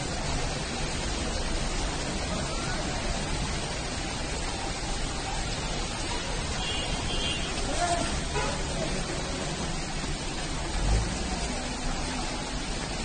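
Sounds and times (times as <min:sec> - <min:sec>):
heavy rain pouring on street: 0:00.0 - 0:13.0.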